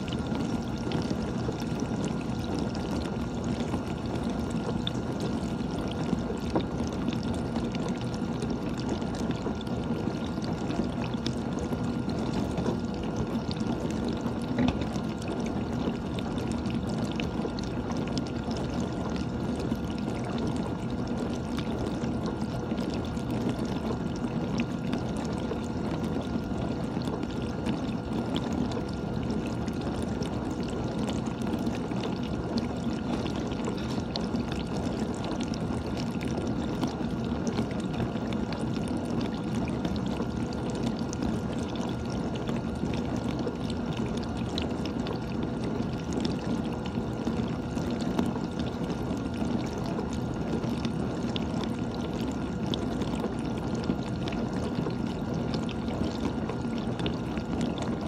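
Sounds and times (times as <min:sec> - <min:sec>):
pump hum: 0:00.0 - 0:58.0.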